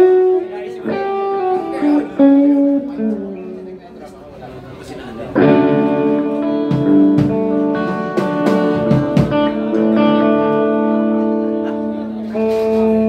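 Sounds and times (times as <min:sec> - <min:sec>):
electric guitar chords ringing: 0:00.0 - 0:04.0, 0:05.3 - 0:13.0.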